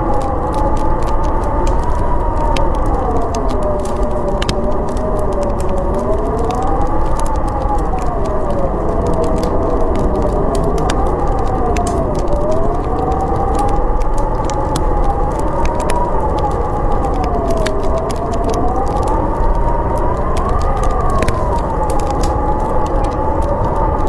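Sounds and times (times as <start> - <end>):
howling storm wind: 0.0 - 24.0
wood fire crackling and popping: 0.0 - 24.0.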